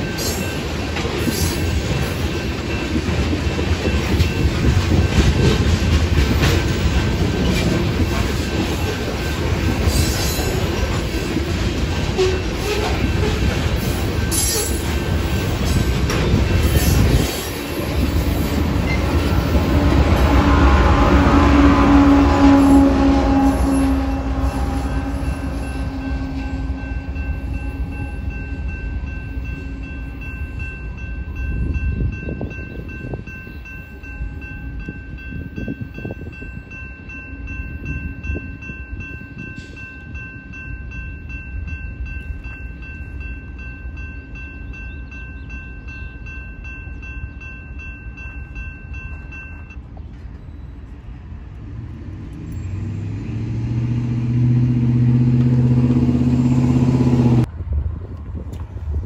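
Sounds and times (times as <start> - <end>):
train wheels rumbling and knocking: 0.0 - 40.2, 48.4 - 59.0
crossing warning bell ringing: 0.0 - 50.8.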